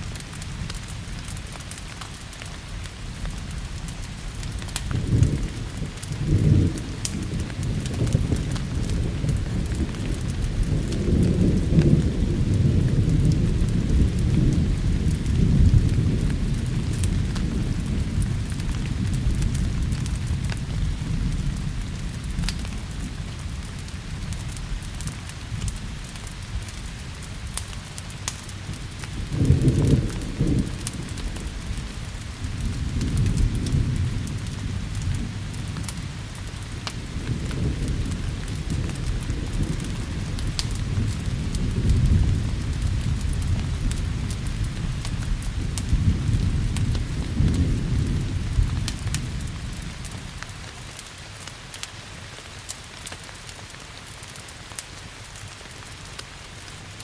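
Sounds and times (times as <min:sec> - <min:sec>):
sharp crackles: 0:00.0 - 0:57.0
steady rain: 0:00.0 - 0:57.0
thunder clap and rumbles: 0:00.1 - 0:50.5.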